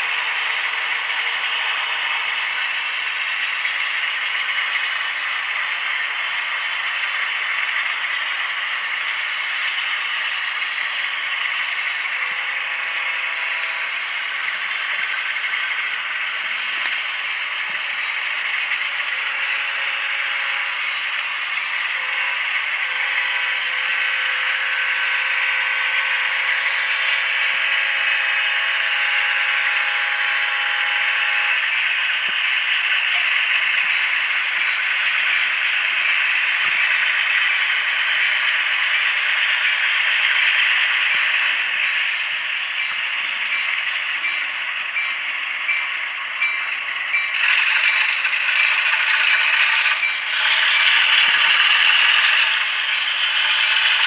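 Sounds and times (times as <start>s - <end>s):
diesel engine sound from speaker: 0.0s - 54.0s
model train gears whirring: 0.0s - 54.0s
steady multi-tone hum: 0.0s - 54.0s.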